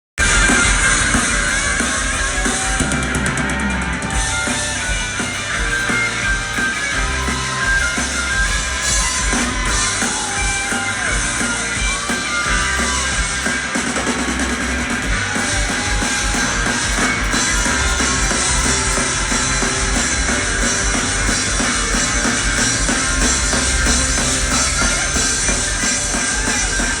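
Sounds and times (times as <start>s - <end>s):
rock music with drums and guitar: 0.2s - 27.0s.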